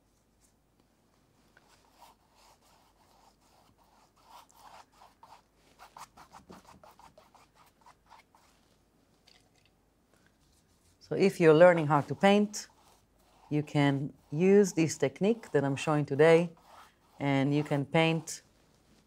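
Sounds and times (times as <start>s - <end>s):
paintbrush scratching on canvas: 1.6s - 8.8s, 10.4s - 19.0s.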